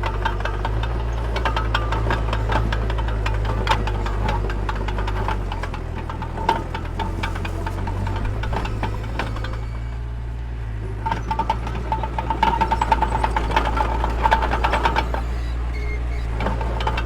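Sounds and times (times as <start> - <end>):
diesel engine running: 0.0 - 17.0
metallic clanks and rattles: 0.0 - 17.0.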